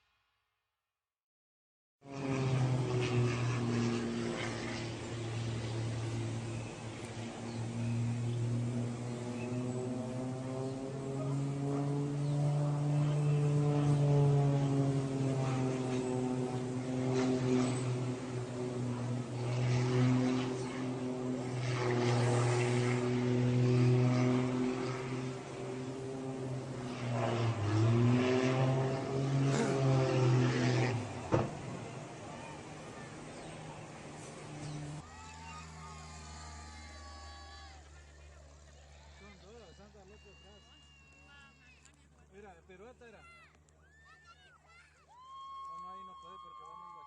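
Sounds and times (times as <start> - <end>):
propeller airplane engine droning: 2.0 - 47.0.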